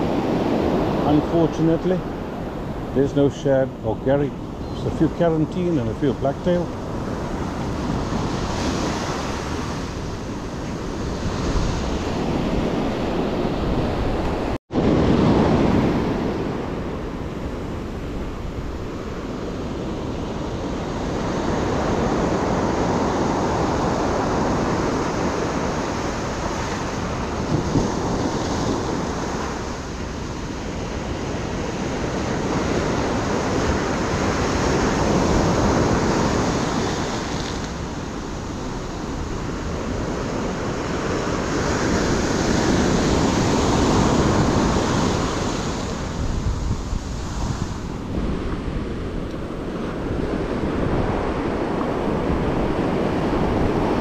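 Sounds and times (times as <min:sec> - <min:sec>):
ocean surf breaking on beach: 0:00.0 - 0:54.0
wind on microphone: 0:00.0 - 0:54.0.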